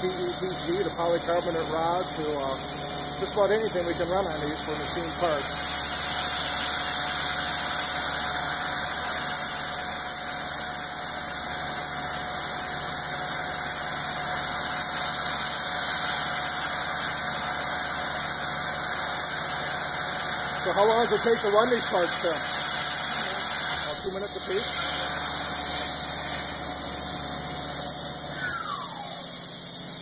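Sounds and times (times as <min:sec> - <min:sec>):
milling machine whine and hiss: 0:00.0 - 0:30.0.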